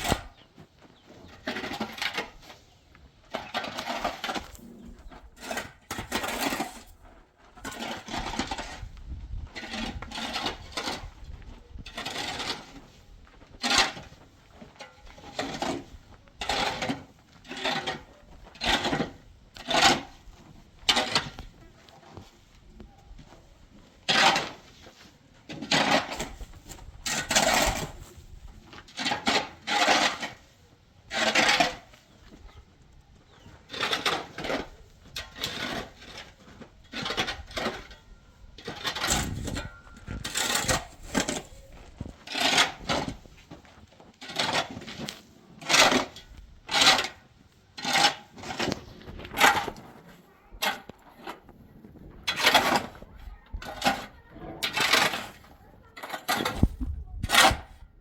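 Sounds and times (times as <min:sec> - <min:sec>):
metal tool scraping wet mortar: 0:01.2 - 0:21.8, 0:23.8 - 0:32.3, 0:33.3 - 0:57.8.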